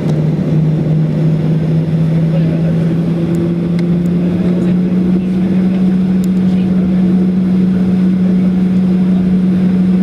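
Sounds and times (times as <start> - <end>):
jet cabin engine drone: 0.0 - 10.0.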